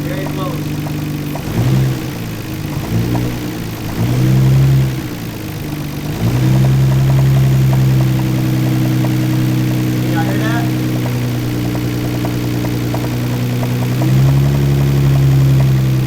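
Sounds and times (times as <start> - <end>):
car engine revving: 0.0 - 16.0
engine rod knock: 0.0 - 16.0.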